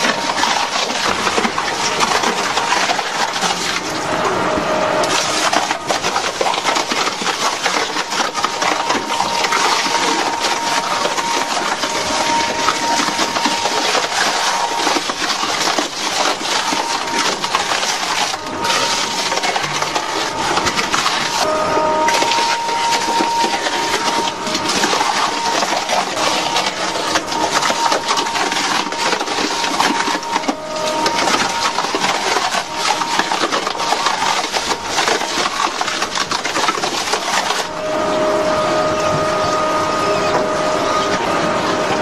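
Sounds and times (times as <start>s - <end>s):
crusher machine cracking material: 0.0s - 4.2s, 5.0s - 21.5s, 22.1s - 37.8s
motor whine: 0.0s - 42.0s.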